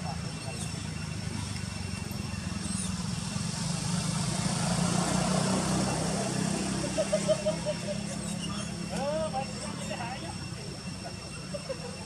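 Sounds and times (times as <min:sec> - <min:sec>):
thin high whines: 0:00.0 - 0:12.0.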